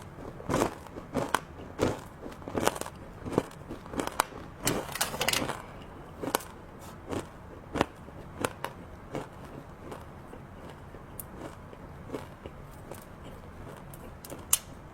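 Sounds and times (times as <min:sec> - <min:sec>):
chewing crunchy chocolate treats: 0:00.0 - 0:14.9.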